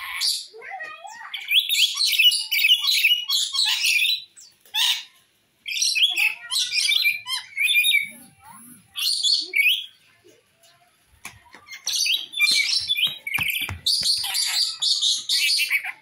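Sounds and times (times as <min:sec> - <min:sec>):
parrot chattering and screeching: 0:00.0 - 0:09.9, 0:11.9 - 0:16.0.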